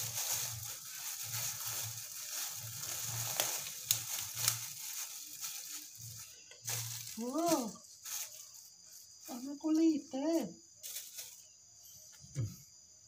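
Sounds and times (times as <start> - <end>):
rustling and crackling of vegetables: 0.0 - 11.6.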